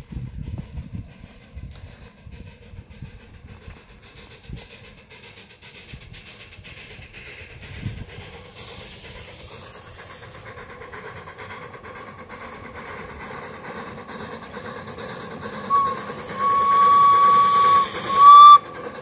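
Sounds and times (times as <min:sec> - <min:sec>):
steam hiss: 0:00.0 - 0:19.0
train running on rails: 0:00.0 - 0:19.0.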